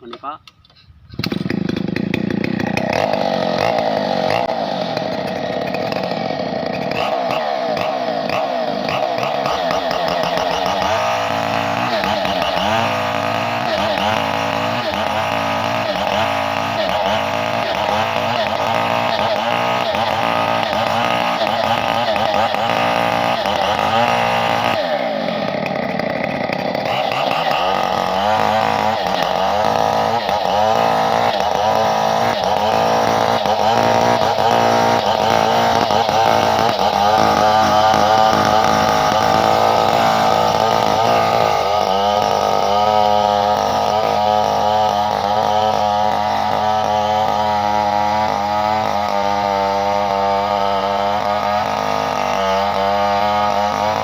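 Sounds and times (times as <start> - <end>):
chainsaw engine running at high revs: 1.2 - 54.0.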